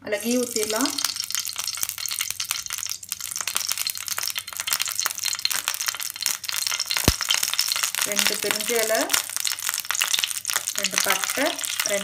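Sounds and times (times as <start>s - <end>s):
ghee sizzling and crackling in a pan: 0.0s - 12.0s.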